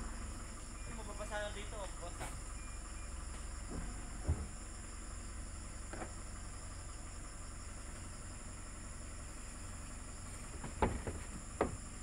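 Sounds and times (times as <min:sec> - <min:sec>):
insects buzzing: 0:00.0 - 0:12.0
truck engine rumbling: 0:00.0 - 0:12.0.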